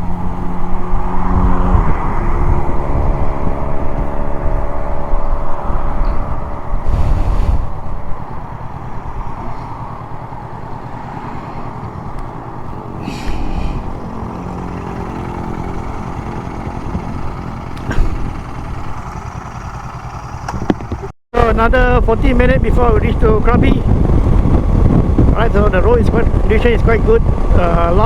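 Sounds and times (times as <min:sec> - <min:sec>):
wind rushing: 0:00.0 - 0:20.3, 0:21.4 - 0:28.0
motorcycle engine cruising: 0:00.0 - 0:28.0.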